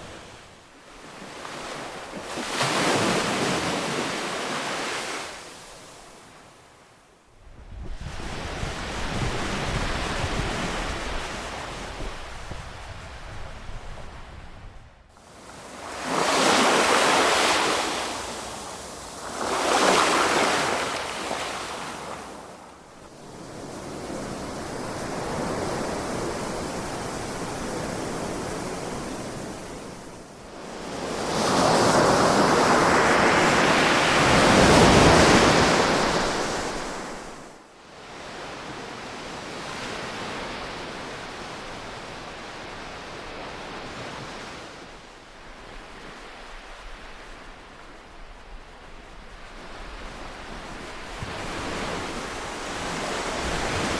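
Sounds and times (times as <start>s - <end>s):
ocean waves washing onto shore: 0.0s - 6.6s, 8.0s - 14.5s, 15.1s - 53.9s.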